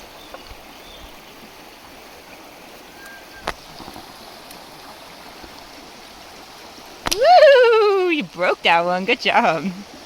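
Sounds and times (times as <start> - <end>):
creek water running over rocks: 0.0 - 10.0.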